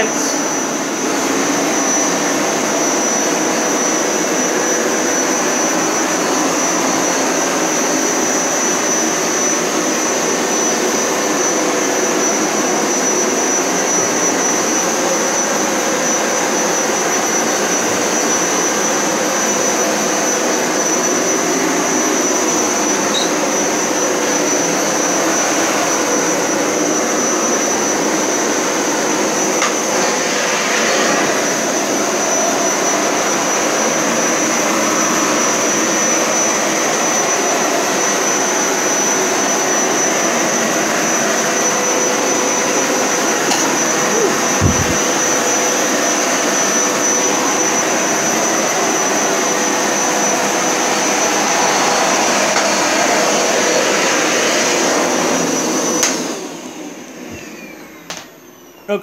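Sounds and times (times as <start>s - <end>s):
carpet cleaner motor running: 0.0s - 59.0s
high steady whine: 0.0s - 59.0s.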